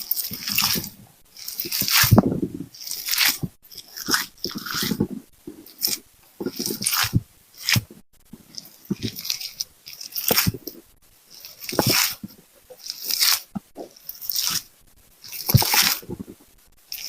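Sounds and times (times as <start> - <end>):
crisp food crunching: 0.0 - 17.0.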